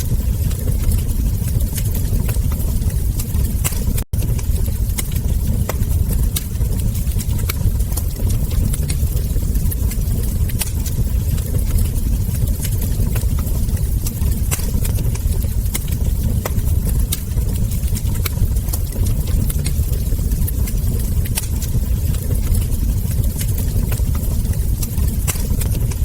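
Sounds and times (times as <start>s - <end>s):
fire crackles and ember pops: 0.0s - 26.0s
low fire rumble: 0.0s - 26.0s.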